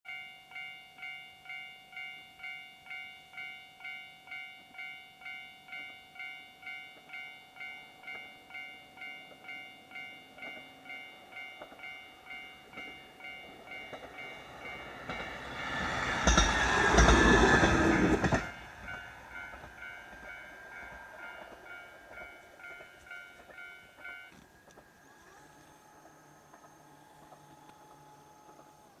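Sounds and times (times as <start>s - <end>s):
level crossing bell clanging: 0.1s - 25.0s
diesel railcar passing: 0.1s - 29.0s.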